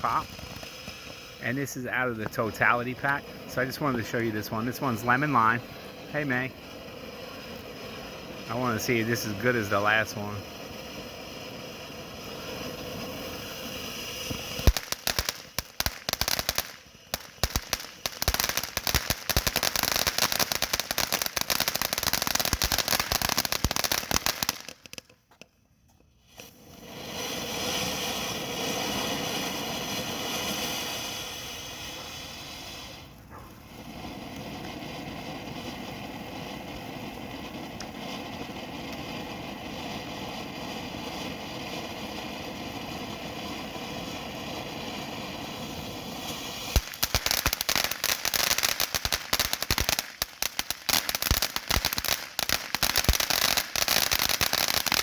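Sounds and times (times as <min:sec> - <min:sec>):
rushing firework spray: 0:00.0 - 0:25.5, 0:26.2 - 0:55.0
firework fountain hissing: 0:00.0 - 0:55.0
rapid firework crackling: 0:00.0 - 0:55.0.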